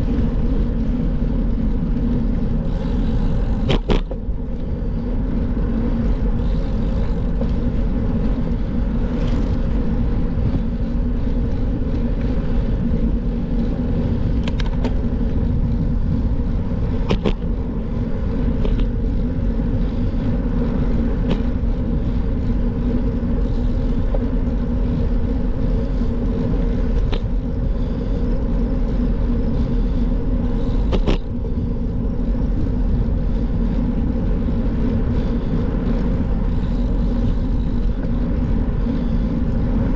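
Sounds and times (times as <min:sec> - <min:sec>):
road noise: 0:00.0 - 0:39.9
wind on microphone: 0:00.0 - 0:39.9.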